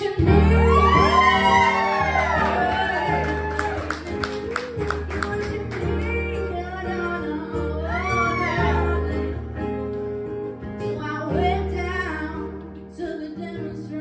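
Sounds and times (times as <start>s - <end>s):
woman singing: 0.0s - 3.0s, 4.2s - 14.0s
acoustic guitar: 0.0s - 14.0s.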